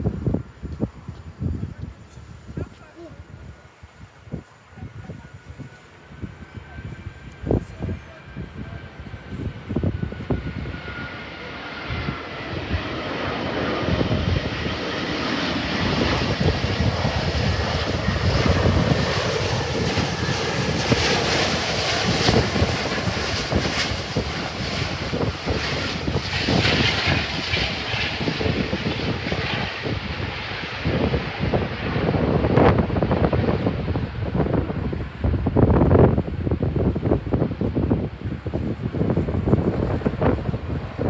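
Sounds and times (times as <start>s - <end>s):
jet engines roaring: 0.0s - 41.0s
wind buffeting microphone: 0.0s - 41.0s.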